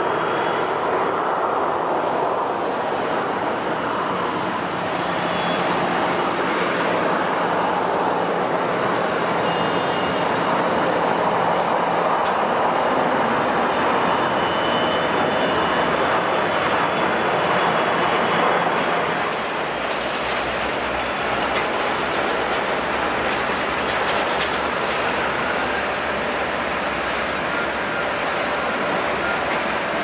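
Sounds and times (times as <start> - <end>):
jet engines climbing: 0.0 - 30.0.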